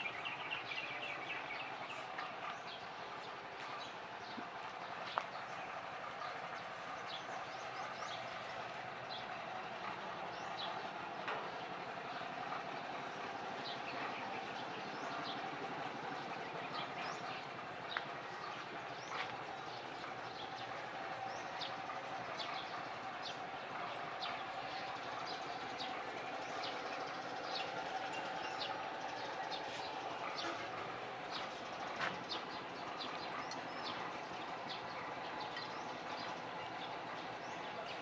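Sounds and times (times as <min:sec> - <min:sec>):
small birds chirping: 0:00.0 - 0:38.0
steady background hum: 0:00.0 - 0:38.0.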